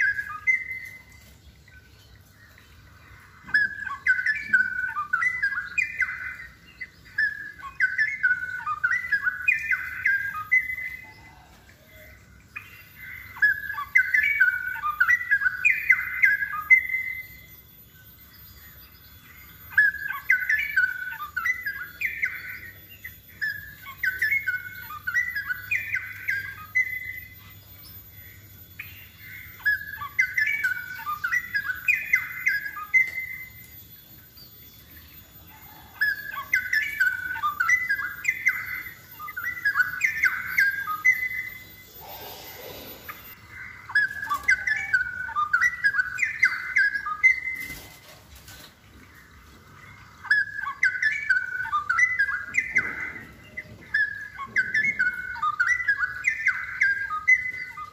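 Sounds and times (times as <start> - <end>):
bird singing bubbling warbles: 0.0 - 57.9.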